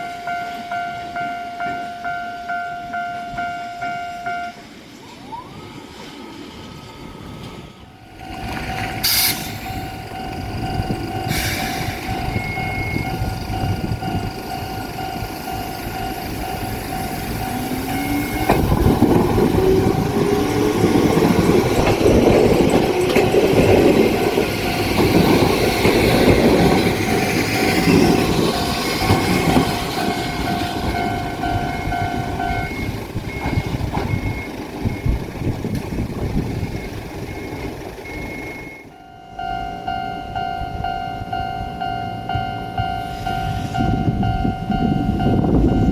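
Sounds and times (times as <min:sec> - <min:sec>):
level-crossing warning alarm: 0:00.0 - 0:06.1, 0:07.5 - 0:45.9
train wheels rumbling: 0:00.0 - 0:45.9
electric train motors whining: 0:04.8 - 0:45.9.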